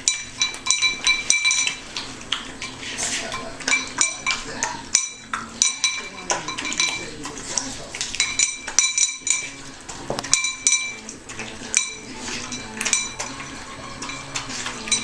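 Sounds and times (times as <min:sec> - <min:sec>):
metal clinking and rattling: 0:00.0 - 0:15.0.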